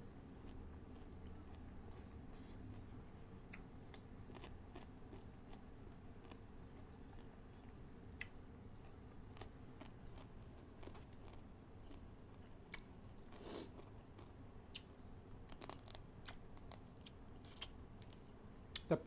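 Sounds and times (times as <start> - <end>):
chewing: 0.4 - 5.6, 6.2 - 18.8.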